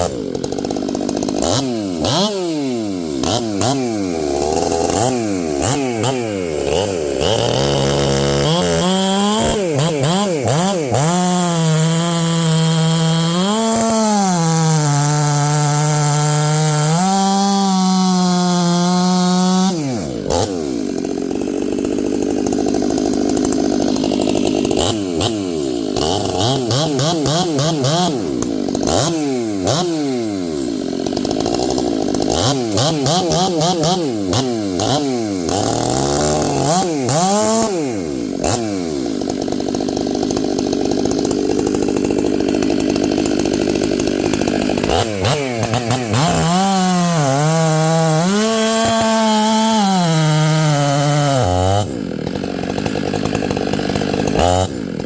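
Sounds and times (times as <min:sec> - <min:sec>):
chainsaw cutting wood: 0:00.0 - 0:55.0
chainsaw running at high revs: 0:00.0 - 0:55.0.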